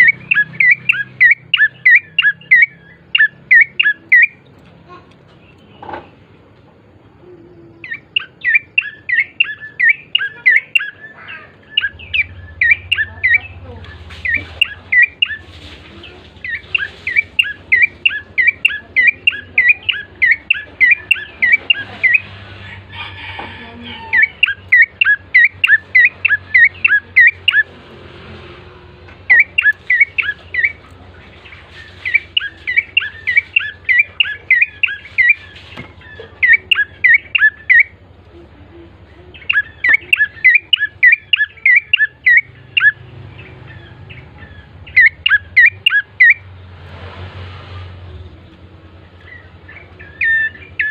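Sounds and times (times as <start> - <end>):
songbird sharp chirps: 0.0 - 6.3, 7.2 - 27.8, 29.2 - 38.4, 39.0 - 46.8, 48.0 - 50.9
faint low hum: 2.1 - 50.9.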